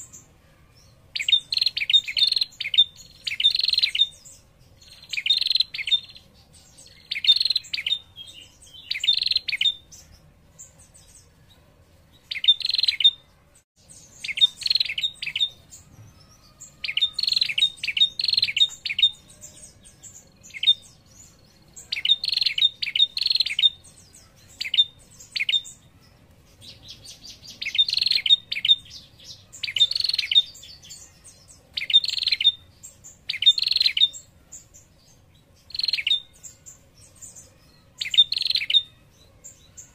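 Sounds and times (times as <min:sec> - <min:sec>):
bird chattering trills: 0:00.0 - 0:11.2, 0:12.2 - 0:13.2, 0:14.0 - 0:34.9, 0:35.6 - 0:39.9.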